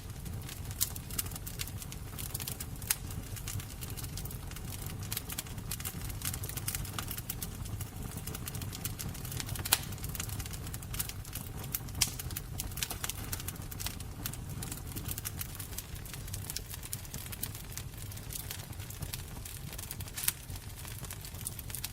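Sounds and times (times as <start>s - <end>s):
fire popping: 0.0s - 21.9s
wood fire crackling: 0.0s - 21.9s.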